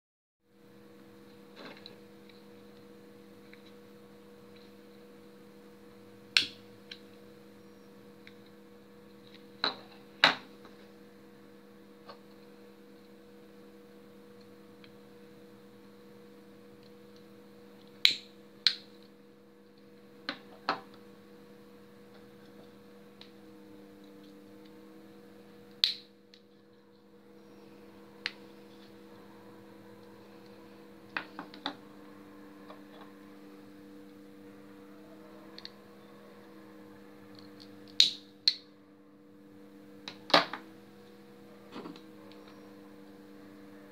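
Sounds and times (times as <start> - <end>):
electrical hum: 0.4 - 43.9.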